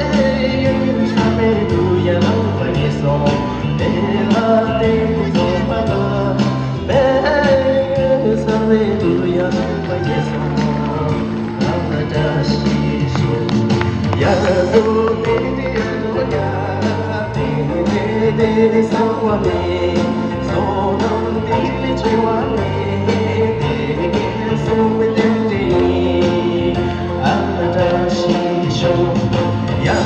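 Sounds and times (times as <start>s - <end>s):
backing track with steady beat: 0.0s - 30.0s
person singing: 0.0s - 30.0s.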